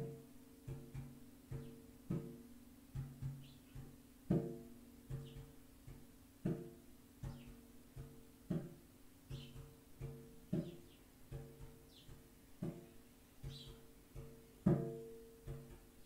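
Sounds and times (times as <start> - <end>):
drum beating slow rhythm: 0.0 - 16.0.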